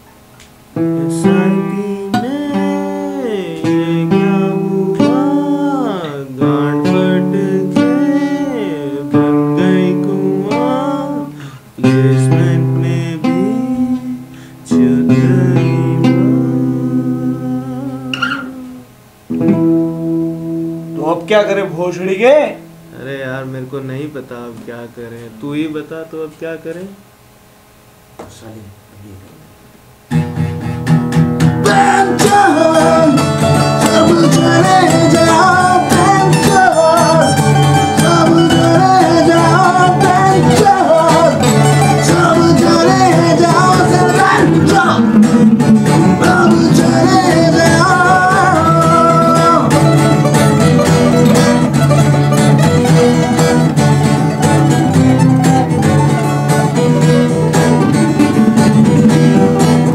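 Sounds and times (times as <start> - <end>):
band song with guitar: 0.0 - 25.4, 30.1 - 59.9.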